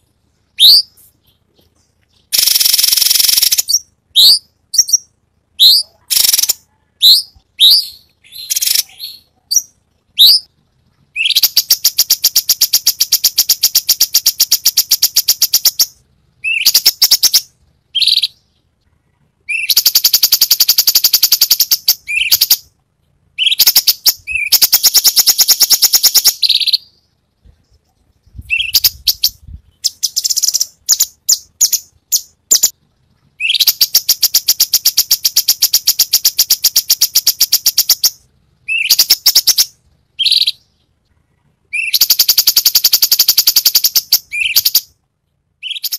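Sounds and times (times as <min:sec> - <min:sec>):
rapid repeated sharp bird notes: 0:00.0 - 0:06.6, 0:07.2 - 0:22.7, 0:23.4 - 0:27.1, 0:28.6 - 0:45.0, 0:45.6 - 0:45.9
bird singing whistled chirps: 0:00.6 - 0:01.4, 0:02.2 - 0:10.5, 0:11.1 - 0:18.6, 0:19.4 - 0:22.7, 0:23.4 - 0:27.1, 0:28.3 - 0:32.7, 0:33.4 - 0:40.7, 0:41.7 - 0:44.9, 0:45.6 - 0:45.9.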